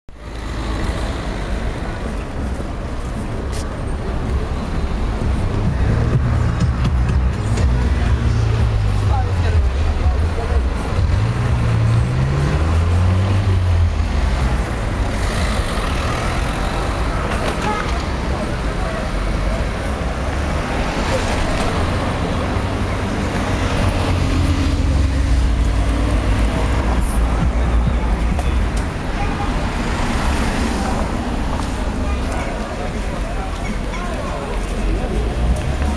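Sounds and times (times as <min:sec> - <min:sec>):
cars on the road: 0:00.1 - 0:35.9
traffic engine rumble: 0:00.1 - 0:35.9.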